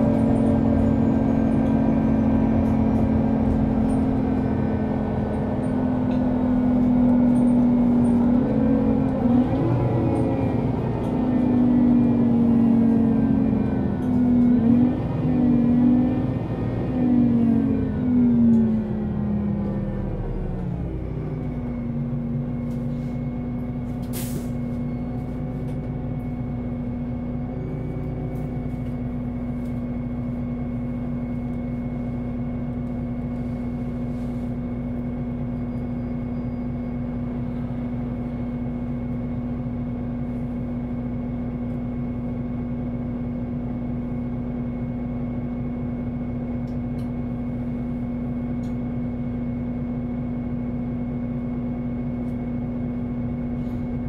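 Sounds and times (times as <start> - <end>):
bus diesel engine idling: 0.0 - 54.0.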